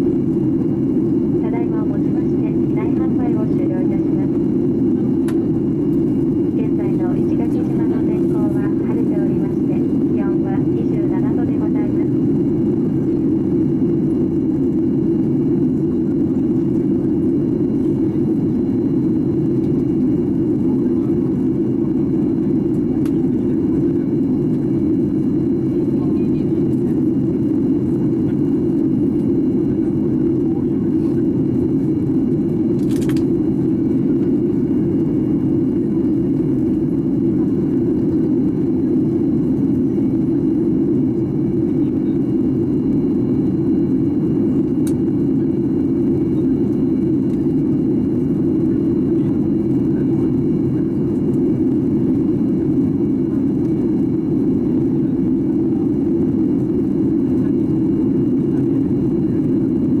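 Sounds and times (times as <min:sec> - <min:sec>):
airliner cabin roar: 0:00.0 - 1:00.0.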